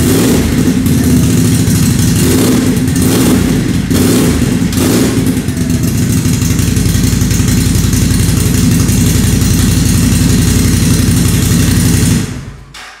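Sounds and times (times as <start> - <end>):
engine idling: 0.0 - 12.8.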